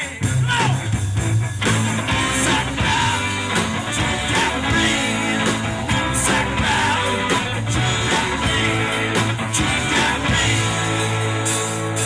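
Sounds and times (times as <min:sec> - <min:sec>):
man singing: 0:00.0 - 0:00.9, 0:02.1 - 0:11.3
country rock band playing: 0:00.0 - 0:12.0.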